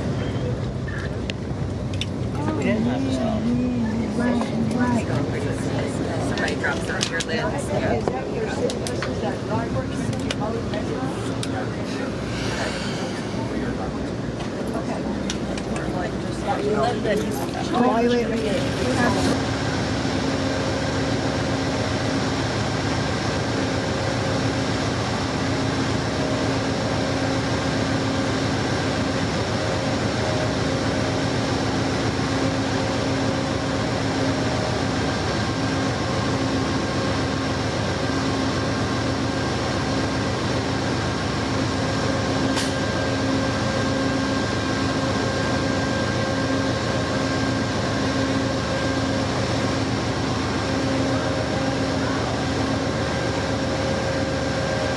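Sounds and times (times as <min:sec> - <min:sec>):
train coach interior rumble: 0:00.0 - 0:54.9.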